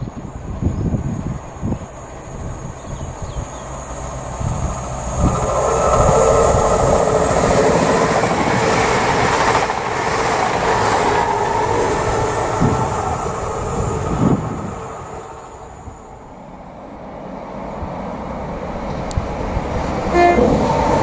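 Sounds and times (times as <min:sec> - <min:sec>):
diesel train passing: 0:00.2 - 0:21.0.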